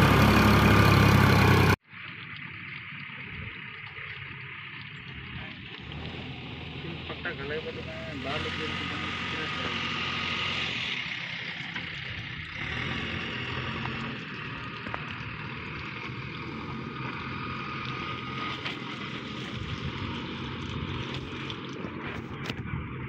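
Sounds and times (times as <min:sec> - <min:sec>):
diesel engines droning: 0:00.0 - 0:01.8, 0:02.7 - 0:23.0.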